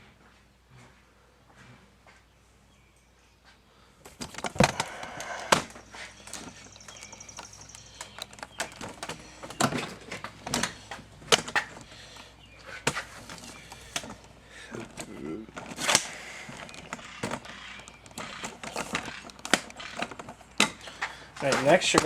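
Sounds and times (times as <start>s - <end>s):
tools and plastic trim rattling: 4.0s - 22.0s.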